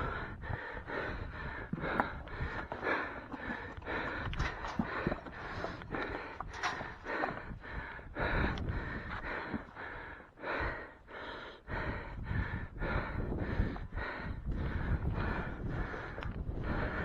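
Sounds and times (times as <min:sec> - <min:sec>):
fast heavy breathing: 0:00.0 - 0:17.0.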